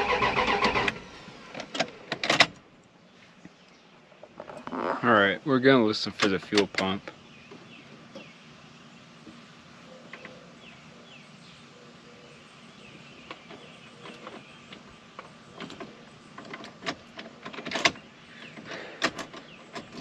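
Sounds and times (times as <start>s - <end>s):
birds chirping: 2.7s - 20.0s.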